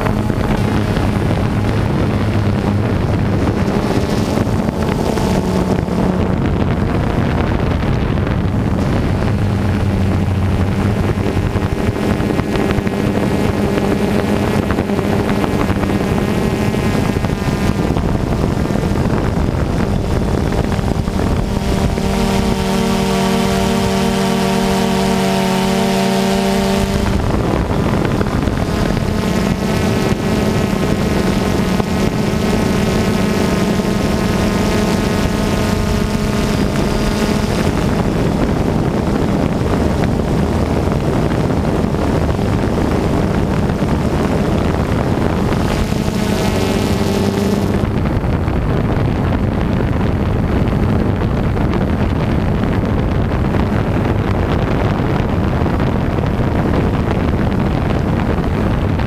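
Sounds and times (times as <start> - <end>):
drone propellers humming: 0.0 - 59.0
wind over microphone: 0.0 - 59.0.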